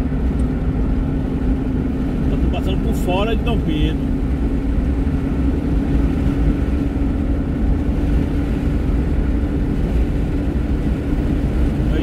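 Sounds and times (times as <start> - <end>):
constant low hum: 0.0 - 12.0
vehicle engine and road noise: 0.0 - 12.0.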